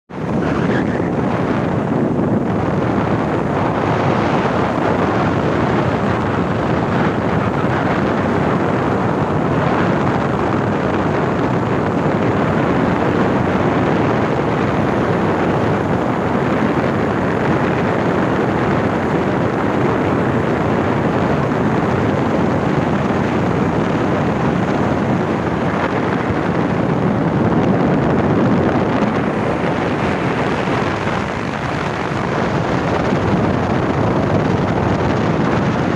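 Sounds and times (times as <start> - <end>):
speedboat engine: 0.1 - 35.9
wind buffeting microphone: 0.1 - 35.9.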